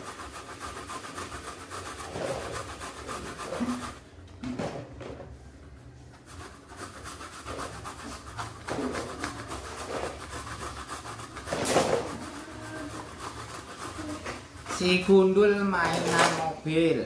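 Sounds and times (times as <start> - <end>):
coconut scraped on metal grater: 0.0 - 4.0, 6.3 - 16.4.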